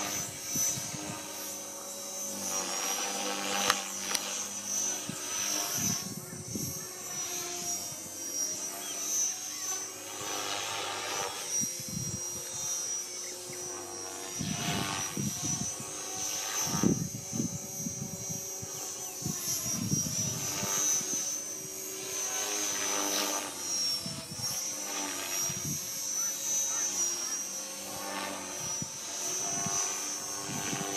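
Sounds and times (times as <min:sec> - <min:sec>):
model helicopter drivetrain whine: 0:00.0 - 0:30.9.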